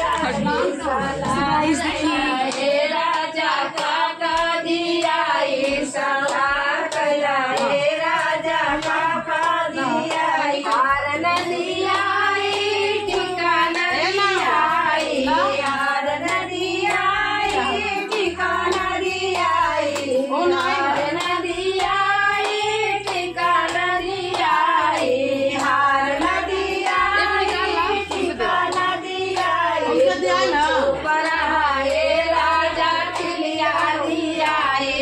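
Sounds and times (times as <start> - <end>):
hand claps: 0.0 - 35.0
women singing folk song: 0.0 - 35.0.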